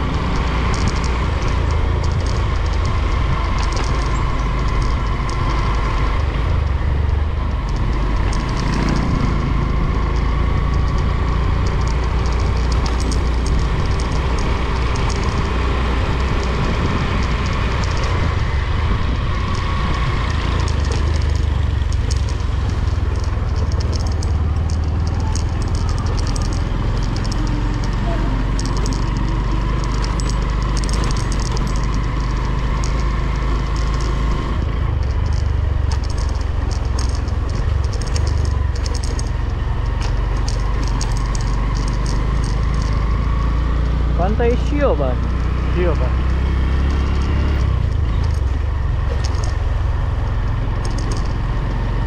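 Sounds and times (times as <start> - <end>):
small rattles and clicks: 0.0 - 52.0
vehicle road rumble: 0.0 - 52.0
wavering engine whine: 0.0 - 52.0.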